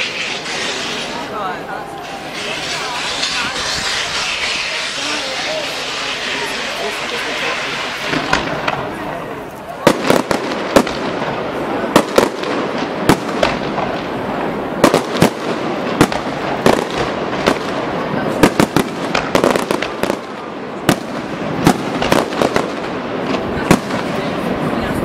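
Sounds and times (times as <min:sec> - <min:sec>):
fireworks bursting with bangs: 0:00.0 - 0:25.0
fireworks crackling: 0:00.0 - 0:25.0.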